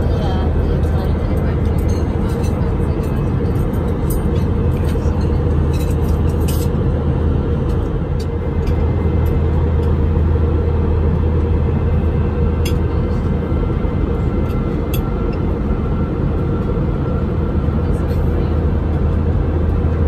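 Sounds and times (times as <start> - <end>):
airplane cabin drone: 0.0 - 20.0.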